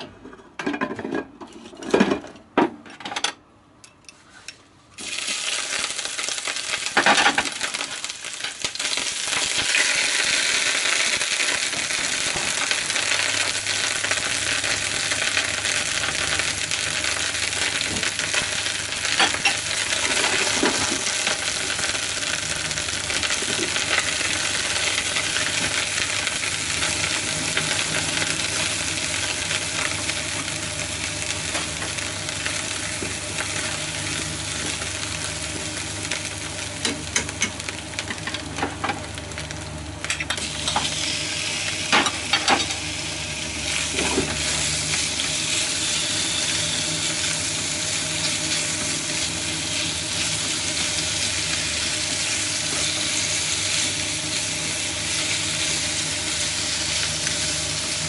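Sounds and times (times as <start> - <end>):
oil sizzling in a frying pan: 5.0 - 58.0.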